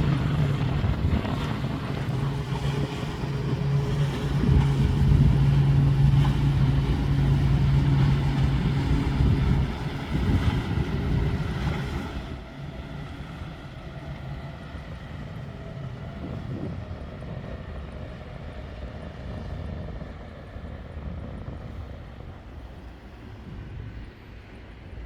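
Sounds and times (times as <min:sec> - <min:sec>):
motorboat engine running: 0:00.0 - 0:25.0.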